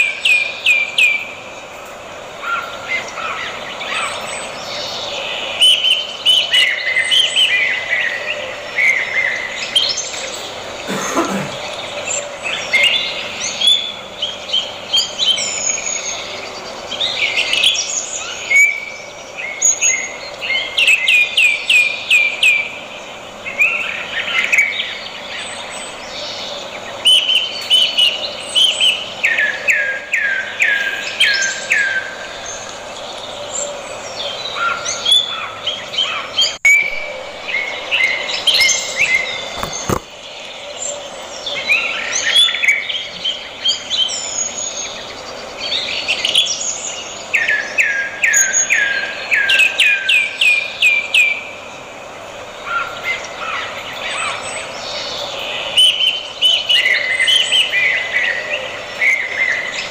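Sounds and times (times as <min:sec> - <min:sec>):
bird chirps and warbles: 0:00.0 - 0:59.9.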